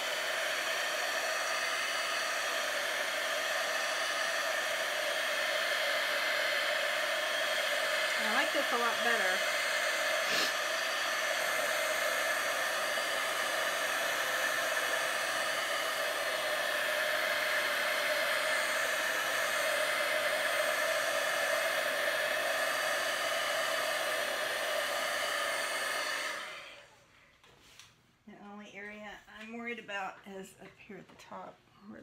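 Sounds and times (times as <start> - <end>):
heat gun blowing air: 0.0 - 27.0.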